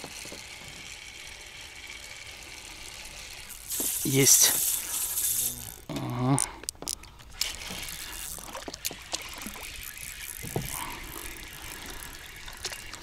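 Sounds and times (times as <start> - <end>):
fishing reel whirring: 0.0 - 13.0
light reel clicks: 0.1 - 13.0.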